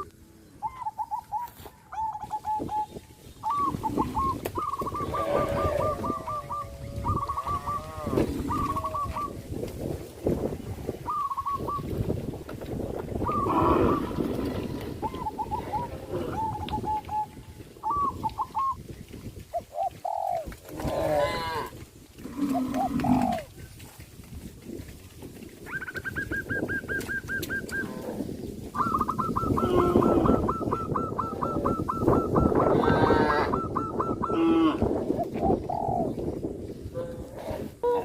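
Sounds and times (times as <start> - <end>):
farmyard animal calls: 0.0 - 9.7, 10.3 - 38.0.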